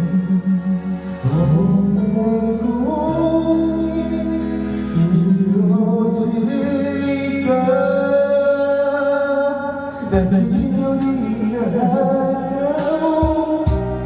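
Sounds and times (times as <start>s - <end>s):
instrumental backing: 0.0s - 14.0s
person singing slow sad song: 0.0s - 14.0s.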